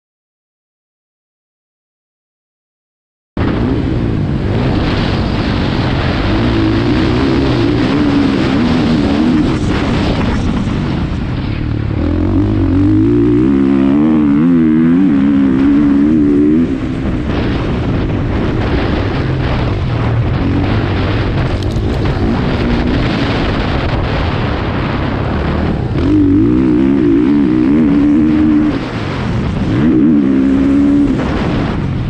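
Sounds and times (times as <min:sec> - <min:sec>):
motorcycle engine revving: 0:03.4 - 0:32.0.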